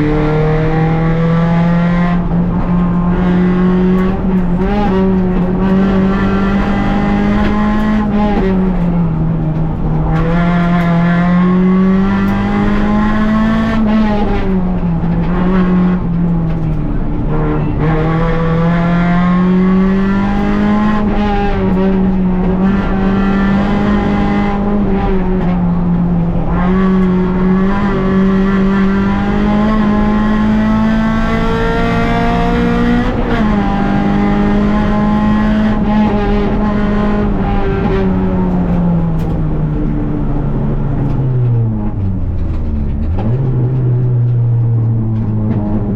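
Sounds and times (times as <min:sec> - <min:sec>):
rally car engine revving: 0:00.0 - 0:45.9.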